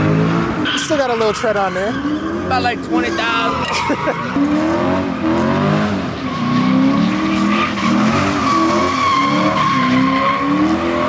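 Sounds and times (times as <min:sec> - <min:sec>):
car engine revving: 0:00.0 - 0:11.0
tires squealing: 0:00.0 - 0:11.0.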